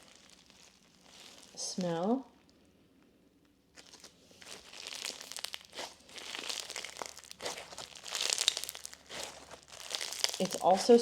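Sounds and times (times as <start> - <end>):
slime crackling and popping: 0.0 - 2.6, 3.7 - 11.0.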